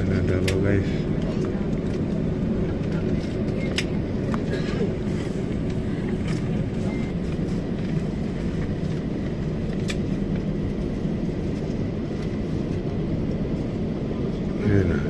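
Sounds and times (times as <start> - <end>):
faint steady whine: 0.0 - 15.0
jet engines idling: 0.0 - 15.0
wheels rolling on taxiway: 0.0 - 15.0.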